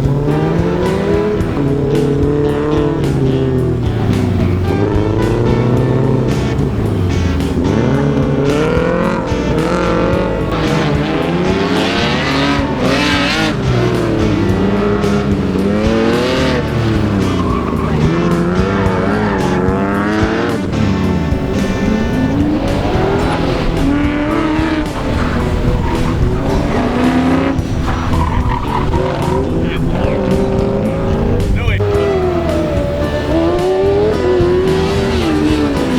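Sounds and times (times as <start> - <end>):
background music: 0.0 - 35.9
car engines revving: 0.0 - 35.9
tyres squealing: 0.0 - 35.9.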